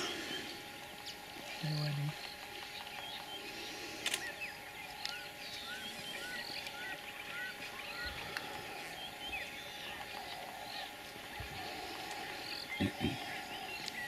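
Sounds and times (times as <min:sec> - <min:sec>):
birds calling and chirping: 0:00.0 - 0:14.0.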